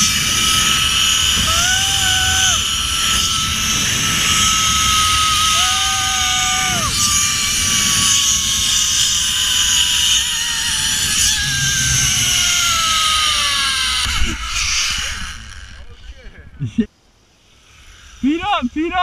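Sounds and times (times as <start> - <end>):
zipline pulleys whining on cable: 0.0 - 16.4, 17.3 - 19.0
heavy wind on microphone: 0.0 - 16.8.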